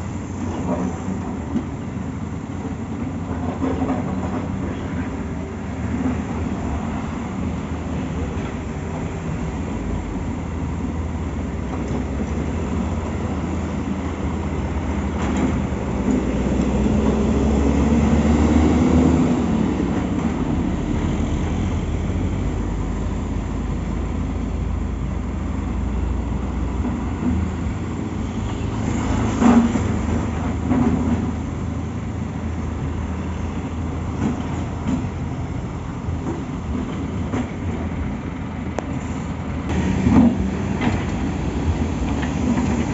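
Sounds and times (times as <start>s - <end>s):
heavy diesel engines rumbling: 0.0s - 42.9s.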